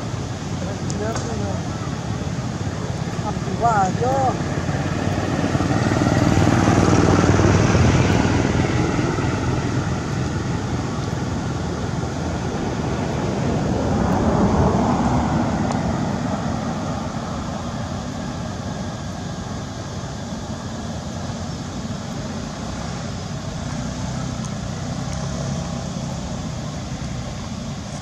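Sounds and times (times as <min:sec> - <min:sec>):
vehicles passing by: 0:00.0 - 0:28.0.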